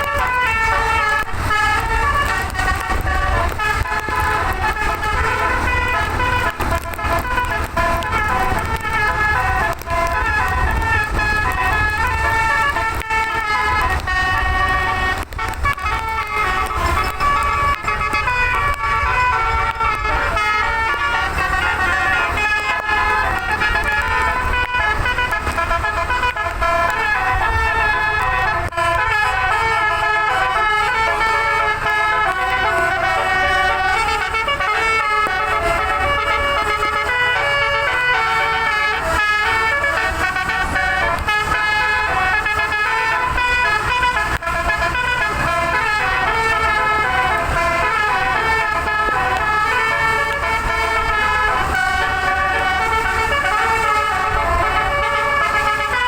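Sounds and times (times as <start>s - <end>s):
bus and road rumble: 0.0s - 56.0s
musical air horn melody: 0.0s - 56.0s.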